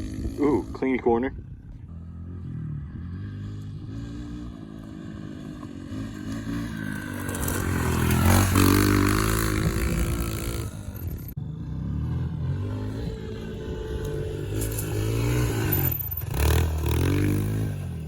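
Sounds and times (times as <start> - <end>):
dirt and tyre noise: 0.0 - 18.0
pit bike engine revving: 0.0 - 18.0.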